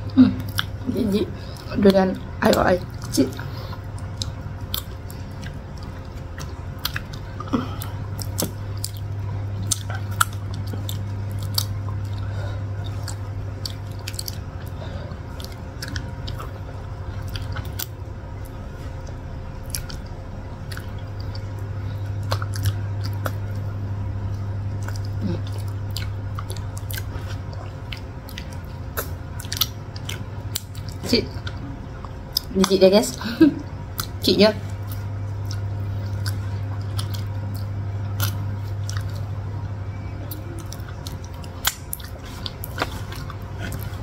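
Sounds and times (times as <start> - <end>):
people chewing soft fruit: 0.0 - 44.0
steady low hum: 0.0 - 44.0.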